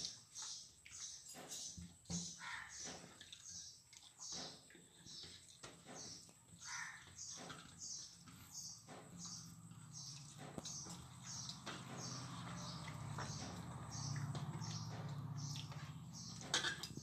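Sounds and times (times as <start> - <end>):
bird chirping: 0.0 - 16.6.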